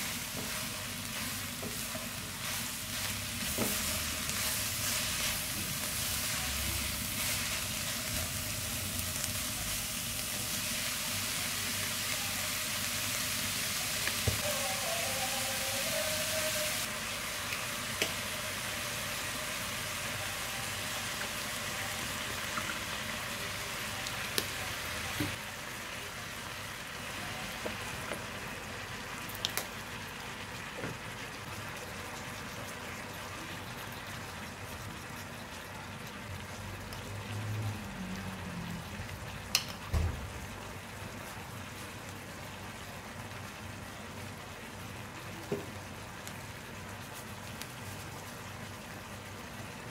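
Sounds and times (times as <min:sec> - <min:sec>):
food sizzling in a pan: 0:00.0 - 0:49.9.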